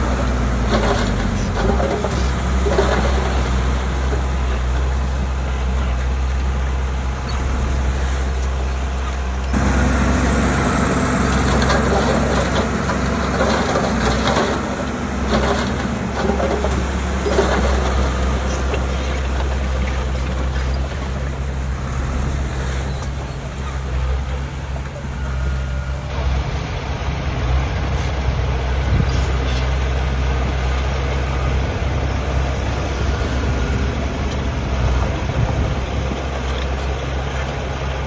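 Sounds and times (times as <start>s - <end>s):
heavy diesel machinery engine drone: 0.0s - 38.0s.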